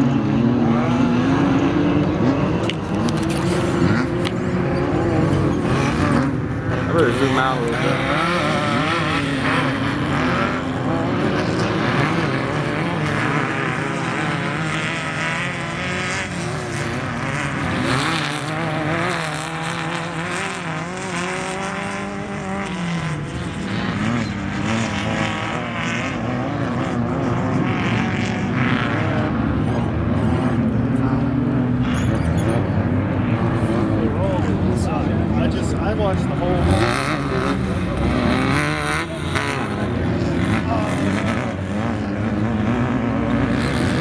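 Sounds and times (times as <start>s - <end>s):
race vehicle engines revving: 0.0s - 44.0s.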